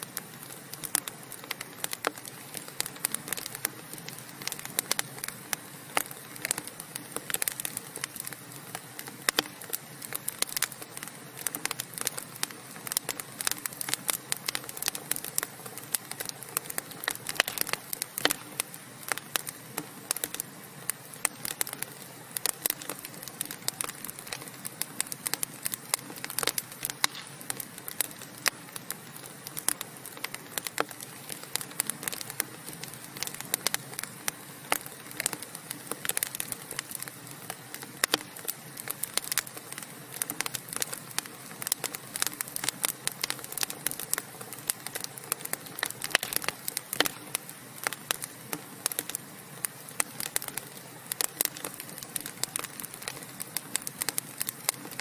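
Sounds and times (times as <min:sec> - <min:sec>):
fire hissing: 0:00.0 - 0:55.0
wood fire crackling: 0:00.0 - 0:55.0.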